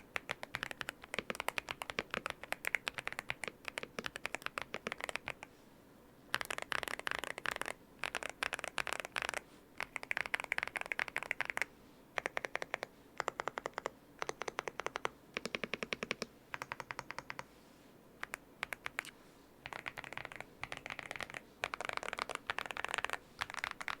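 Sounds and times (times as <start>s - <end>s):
mechanical keyboard typing: 0.0s - 5.5s, 6.3s - 17.5s, 18.2s - 24.0s.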